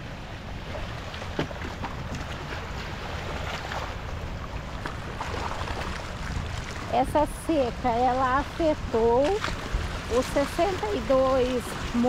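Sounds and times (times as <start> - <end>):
river waves lapping: 0.0 - 12.0
wind buffeting microphone: 0.0 - 12.0.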